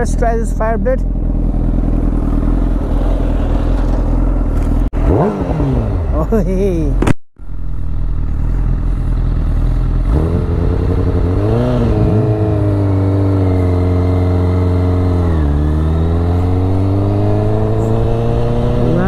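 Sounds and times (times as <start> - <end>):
wind and road noise: 0.0 - 19.0
motorcycle engine revving: 0.6 - 19.0.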